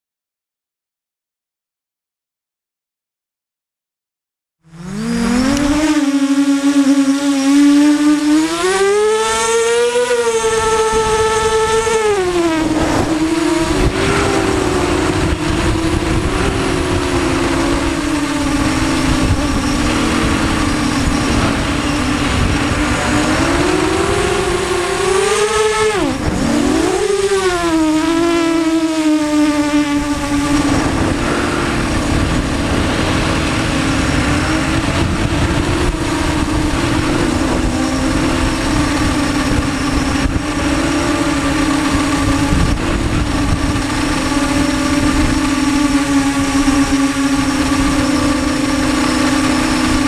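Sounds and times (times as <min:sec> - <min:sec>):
quadcopter motor whine: 0:04.6 - 0:50.0
wind rush: 0:07.6 - 0:50.0.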